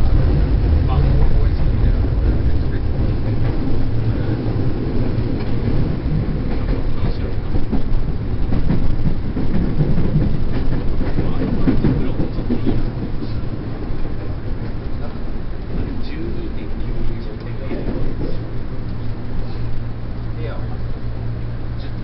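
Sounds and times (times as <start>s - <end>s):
train wheels rumbling: 0.0s - 22.0s
faint rail clicks: 2.2s - 21.0s.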